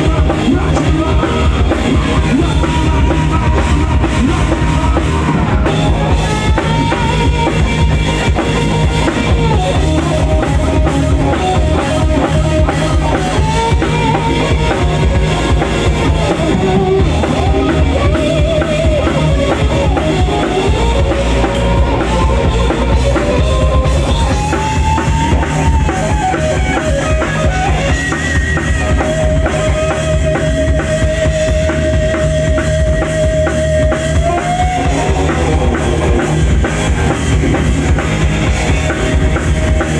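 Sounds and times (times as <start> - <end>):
bending lead guitar melody: 0.0 - 39.9
rock band playing: 0.0 - 39.9.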